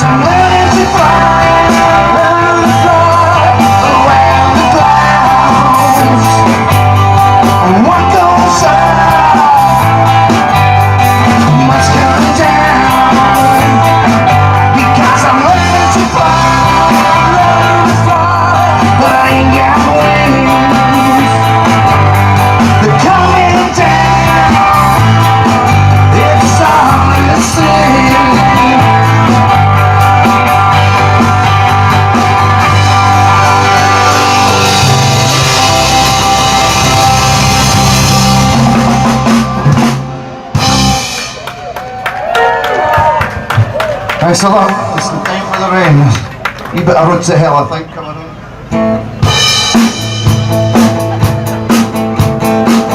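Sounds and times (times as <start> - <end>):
pulsing bass: 0.0 - 41.7, 48.7 - 52.9
live rock band playing: 0.0 - 47.4, 48.3 - 52.9.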